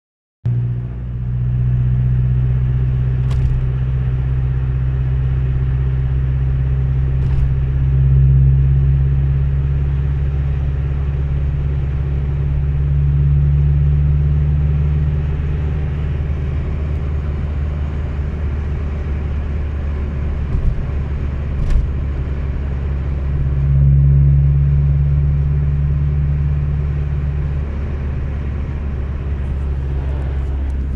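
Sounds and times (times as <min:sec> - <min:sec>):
vehicle engine accelerating: 0:00.5 - 0:30.9.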